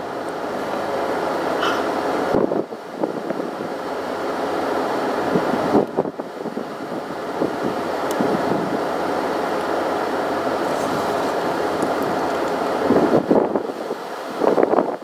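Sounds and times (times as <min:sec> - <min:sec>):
wind rushing over microphone: 0:00.4 - 0:04.0, 0:05.0 - 0:15.0.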